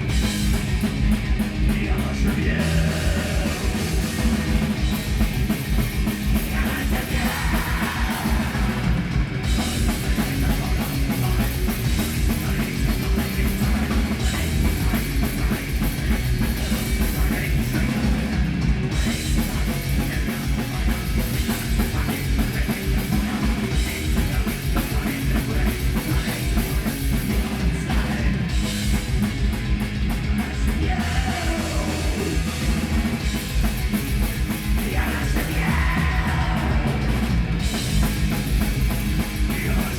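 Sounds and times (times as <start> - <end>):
distorted guitars: 0.0 - 39.9
fast dense drumming: 0.0 - 39.9.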